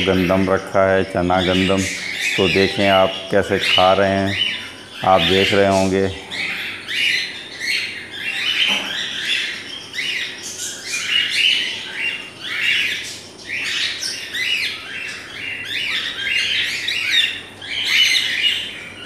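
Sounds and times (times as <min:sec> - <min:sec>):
cockatiels chirping: 0:00.0 - 0:19.0.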